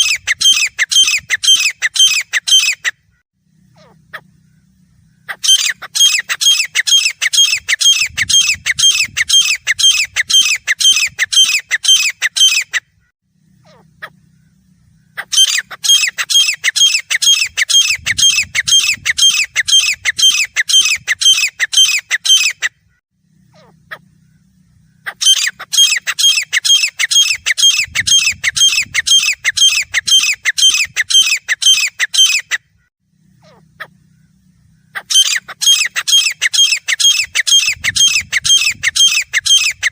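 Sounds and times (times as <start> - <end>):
bird calling shrill repeated notes: 0.0 - 39.9.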